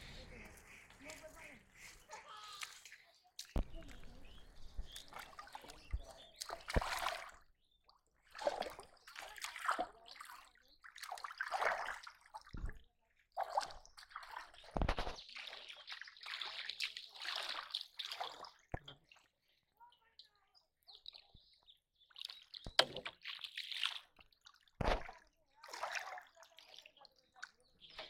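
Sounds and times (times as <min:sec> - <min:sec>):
water splashing and sloshing: 0:00.0 - 0:20.3, 0:21.0 - 0:28.0.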